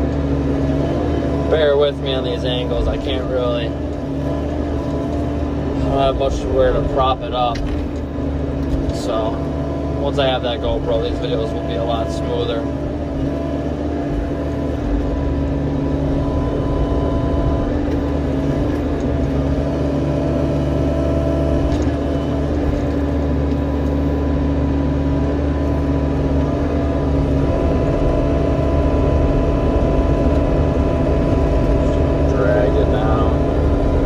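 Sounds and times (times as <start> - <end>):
diesel engine rumbling: 0.0 - 34.0
hydraulic whine: 0.0 - 34.0.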